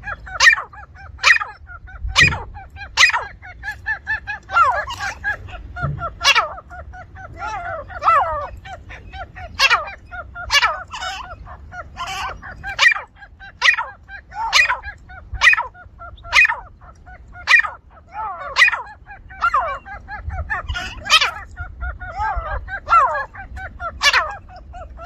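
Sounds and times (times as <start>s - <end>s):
bird chattering notes: 0.0s - 21.6s
bird harsh call: 0.0s - 25.0s.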